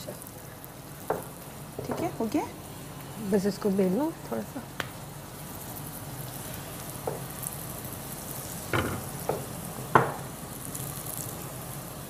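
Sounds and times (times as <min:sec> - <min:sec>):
flatbread sizzling in a pan: 0:00.0 - 0:12.0.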